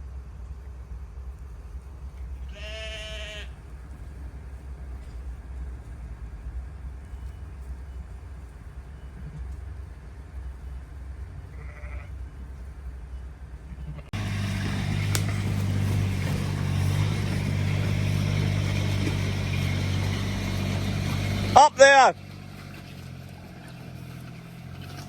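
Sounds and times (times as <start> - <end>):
engine rumble: 0.0 - 25.0.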